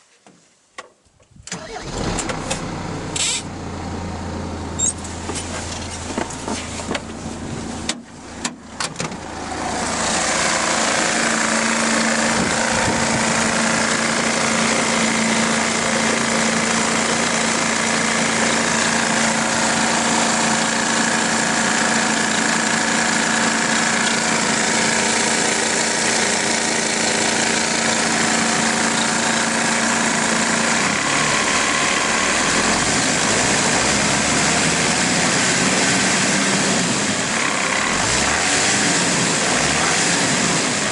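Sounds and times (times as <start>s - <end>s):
diesel engine idling: 1.6s - 40.9s.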